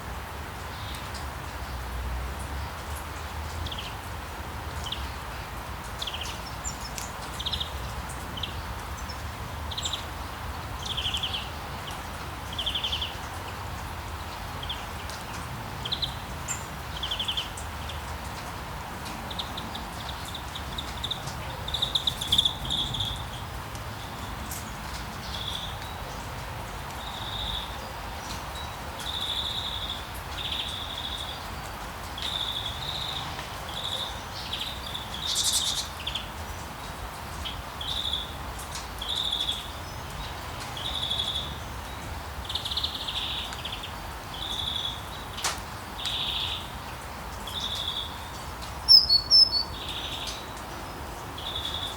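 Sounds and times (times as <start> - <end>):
small birds chirping: 5.9 - 51.9.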